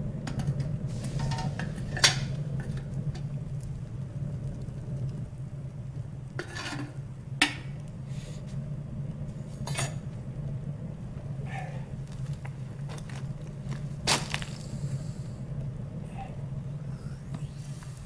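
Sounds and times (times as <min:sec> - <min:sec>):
wood stove fire drone: 0:00.0 - 0:18.0.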